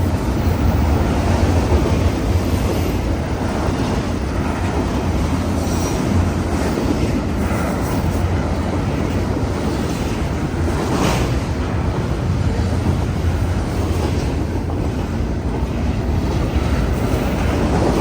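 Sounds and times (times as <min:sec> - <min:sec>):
freight train cars rolling: 0:00.0 - 0:18.0.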